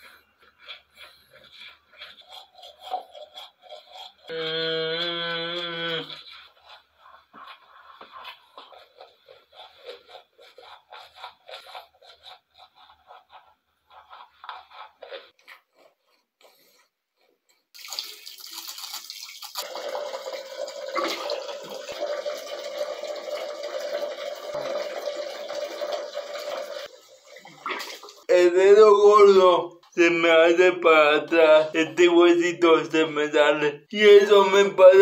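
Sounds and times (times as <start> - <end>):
toothbrush scrubbing teeth: 0.0 - 35.0.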